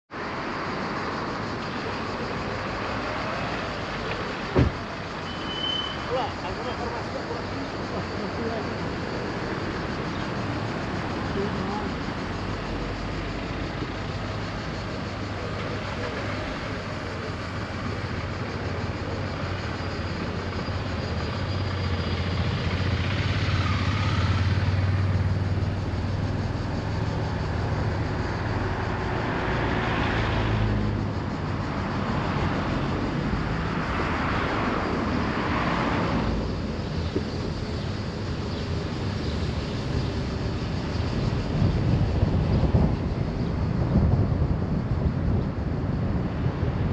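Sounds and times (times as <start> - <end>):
road and tyre noise: 0.1 - 46.9.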